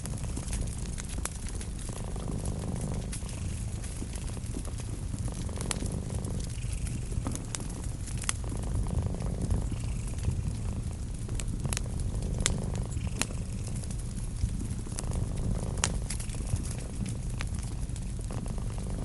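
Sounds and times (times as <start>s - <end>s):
cat purring: 0.0s - 19.0s
crackling fireplace fire: 0.0s - 19.0s.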